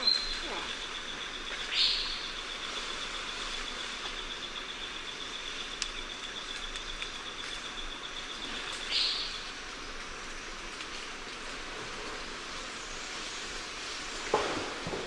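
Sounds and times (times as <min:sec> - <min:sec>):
pulsing insect trill: 0:00.0 - 0:15.0.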